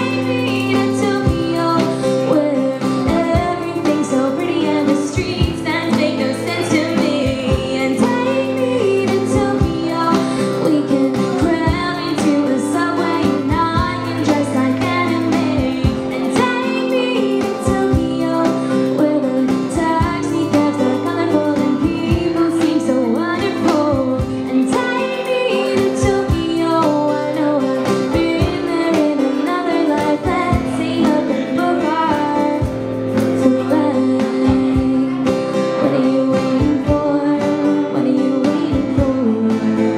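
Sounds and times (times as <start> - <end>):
strummed acoustic guitar: 0.0 - 39.9
woman singing: 0.0 - 39.9.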